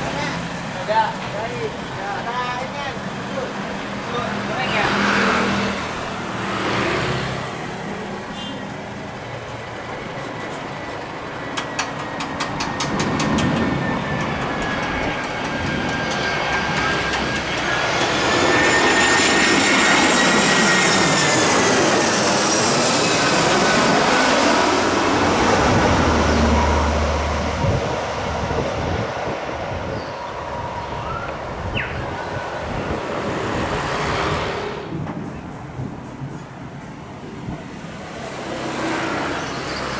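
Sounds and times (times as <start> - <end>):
jet engine roar passing: 0.0 - 39.9.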